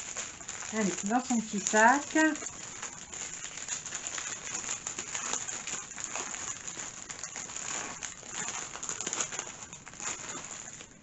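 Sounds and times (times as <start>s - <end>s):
plastic packaging crinkling: 0.0s - 11.0s
small ticks: 0.0s - 11.0s.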